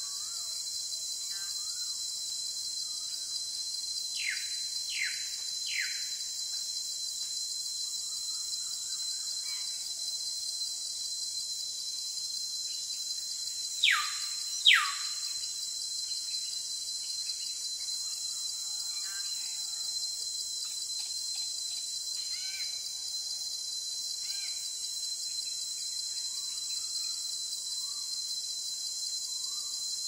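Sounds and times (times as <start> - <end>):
high insect hiss: 0.0 - 30.0.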